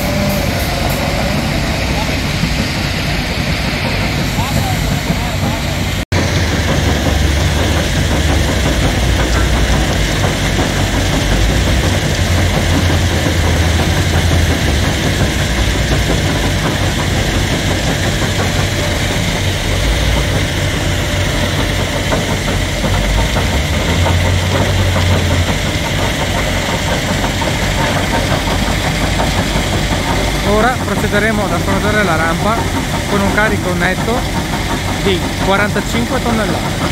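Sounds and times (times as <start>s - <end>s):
diesel engines running: 0.0s - 36.9s
wheel loader engine working: 0.0s - 36.9s.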